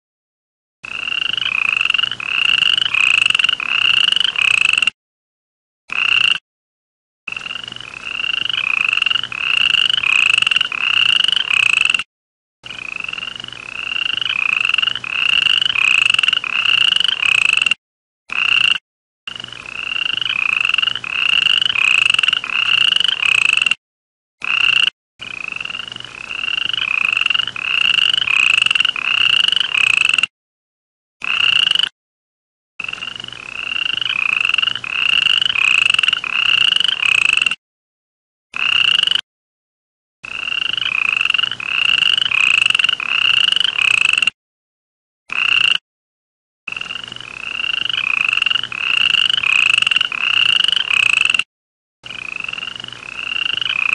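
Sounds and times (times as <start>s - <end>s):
frog calling: 0.9s - 4.9s, 5.9s - 6.4s, 7.3s - 12.0s, 12.7s - 23.8s, 24.4s - 30.3s, 31.2s - 31.9s, 32.8s - 37.6s, 38.6s - 39.2s, 40.3s - 44.3s, 45.3s - 45.8s, 46.7s - 51.4s, 52.0s - 53.9s.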